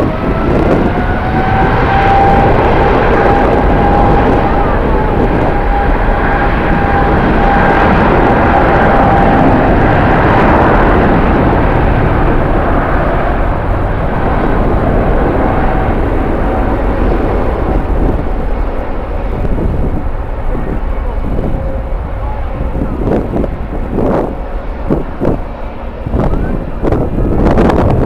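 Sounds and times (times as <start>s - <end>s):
high engine whine: 0.0s - 28.0s
jet engines rumbling: 0.0s - 28.0s.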